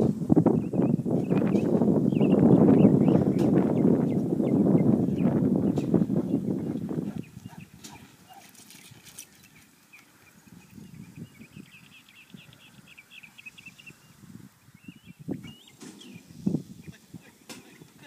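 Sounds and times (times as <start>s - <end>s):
wind buffeting microphone: 0.0s - 18.0s
small birds chirping: 0.5s - 18.0s.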